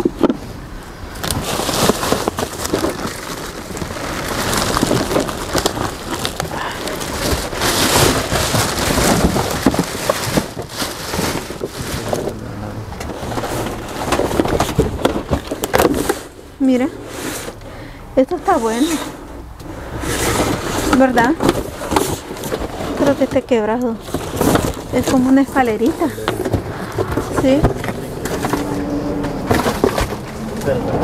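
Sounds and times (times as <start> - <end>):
cardboard and plastic rustling: 0.0 - 31.0.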